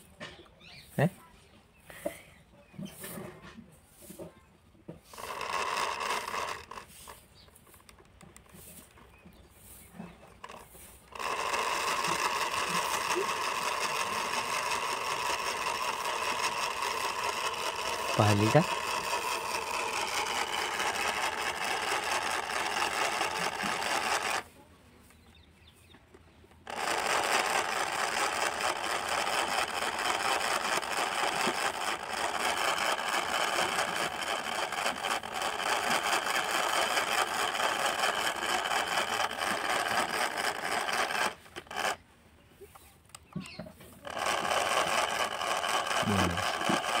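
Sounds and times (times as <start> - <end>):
small motor whirring: 4.9 - 24.5, 26.5 - 42.0, 42.8 - 47.0.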